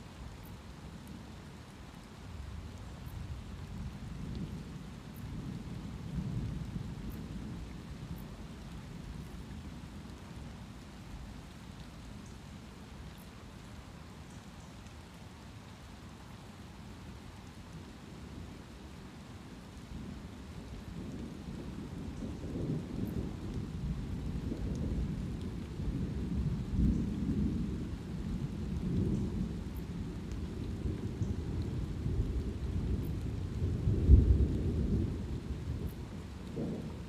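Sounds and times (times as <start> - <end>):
light rain patter: 0.0 - 37.0.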